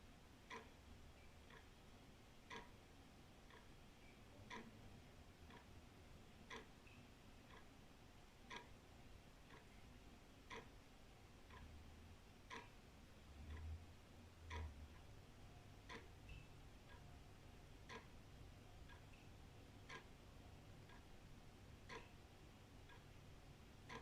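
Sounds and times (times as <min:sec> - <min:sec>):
faint low rumble: 0:00.0 - 0:24.0
wall clock ticking: 0:00.2 - 0:24.0.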